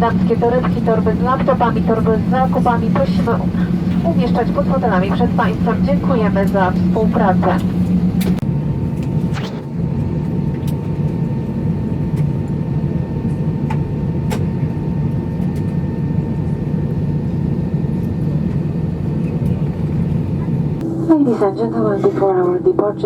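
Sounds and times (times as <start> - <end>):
aircraft cabin hum: 0.0 - 20.9.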